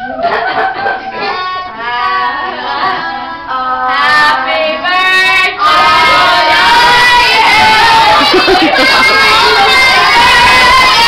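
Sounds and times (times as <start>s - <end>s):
girls singing loudly: 1.1s - 11.0s.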